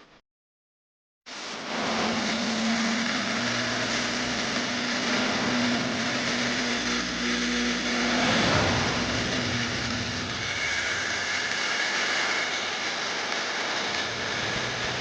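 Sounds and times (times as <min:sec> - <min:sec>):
small motor whirring: 0:01.7 - 0:15.0.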